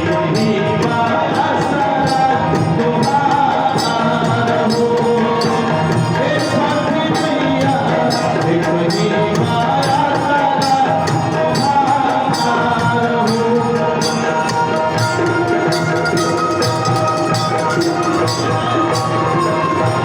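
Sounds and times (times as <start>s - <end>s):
percussion strokes with jingle: 0.0s - 20.0s
sustained melody line: 0.0s - 20.0s.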